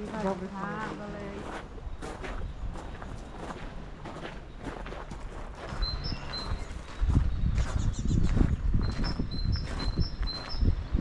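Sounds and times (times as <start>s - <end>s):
footsteps of person walking: 0.0s - 11.0s.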